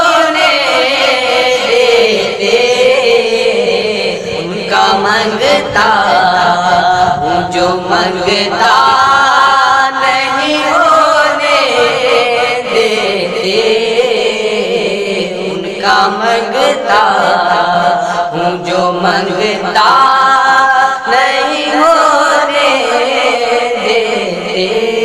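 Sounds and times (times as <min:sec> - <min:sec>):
young men singing devotional song: 0:00.0 - 0:25.0.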